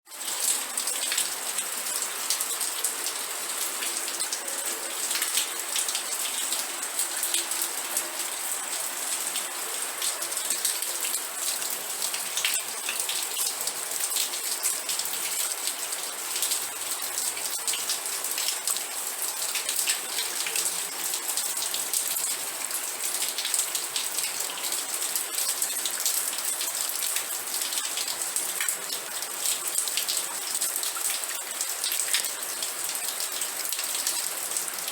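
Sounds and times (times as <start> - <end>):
rain drops pattering: 0.1 - 34.9.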